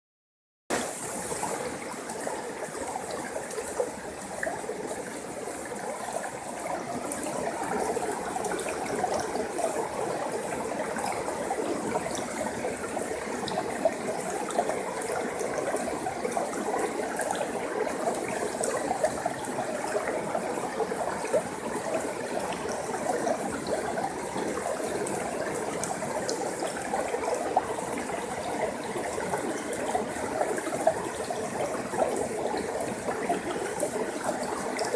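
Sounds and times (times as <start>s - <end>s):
stream flowing over rocks: 0.7s - 34.9s.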